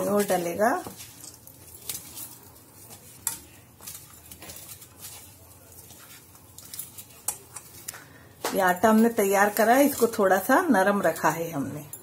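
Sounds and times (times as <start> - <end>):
hands kneading damp dough: 0.0 - 10.6.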